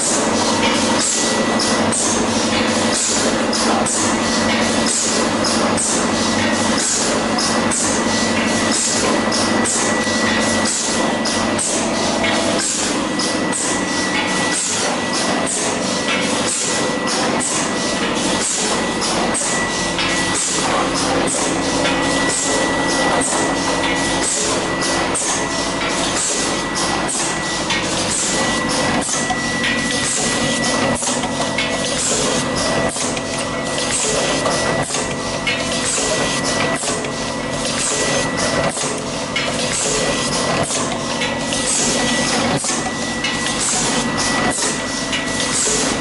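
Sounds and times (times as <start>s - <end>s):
machine clattering clicks: 0.0s - 46.0s.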